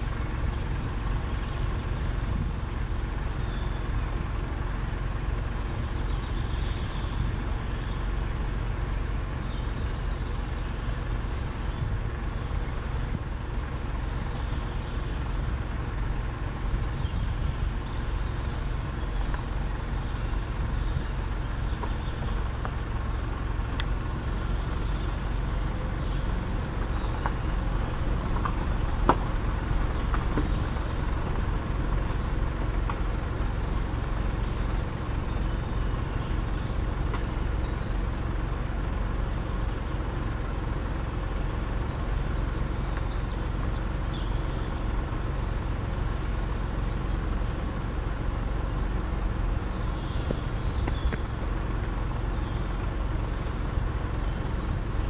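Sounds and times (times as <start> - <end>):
faint songbirds calling: 0.0 - 55.0.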